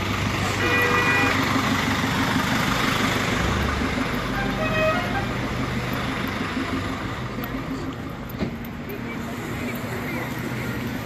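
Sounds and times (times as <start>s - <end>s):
street traffic: 0.0s - 11.0s
vehicle engine running nearby: 0.0s - 11.0s.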